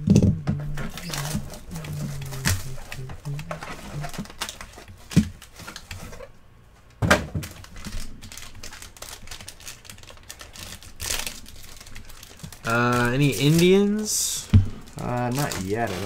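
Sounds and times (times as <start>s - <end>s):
foil wrapping crinkling: 0.8s - 6.3s, 7.4s - 16.0s.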